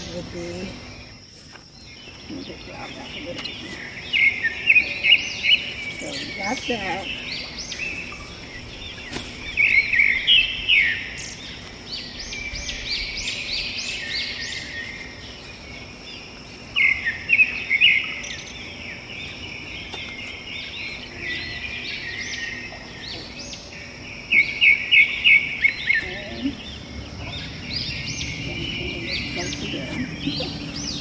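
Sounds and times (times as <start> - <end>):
small birds singing: 0.0 - 31.0.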